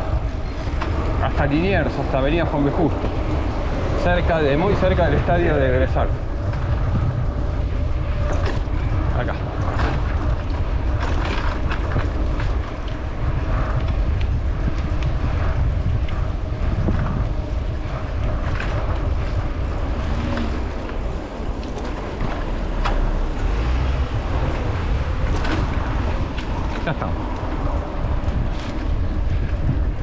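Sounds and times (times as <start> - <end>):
bike clicks and rattles: 0.0 - 30.0
wind rumble on microphone: 0.0 - 30.0.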